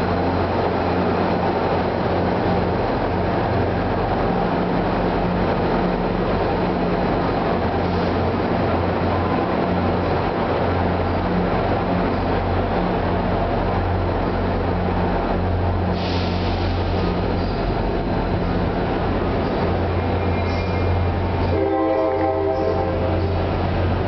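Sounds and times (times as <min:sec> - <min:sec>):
diesel locomotive drone: 0:00.0 - 0:24.0
train wheels rumbling: 0:00.0 - 0:24.0.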